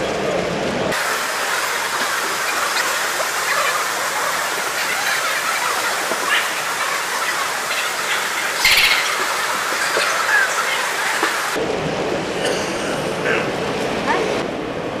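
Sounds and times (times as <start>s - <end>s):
crowd noise: 0.0s - 14.4s.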